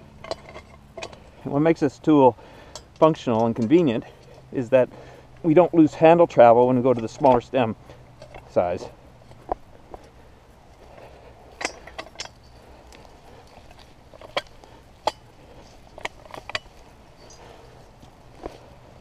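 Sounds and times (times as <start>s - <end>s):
light metallic clicks and clinks: 0.1s - 19.0s.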